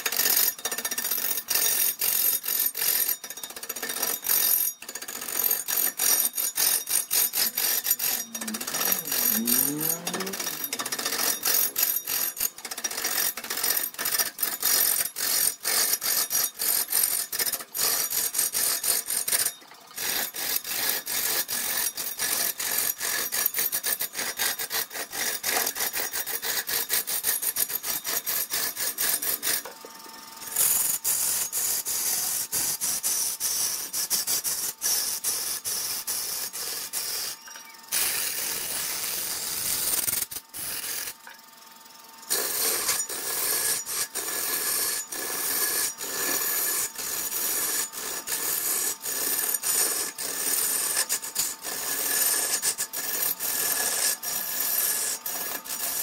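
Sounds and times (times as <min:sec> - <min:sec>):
lathe tool scraping wood: 0:00.0 - 0:41.3, 0:42.2 - 0:56.0.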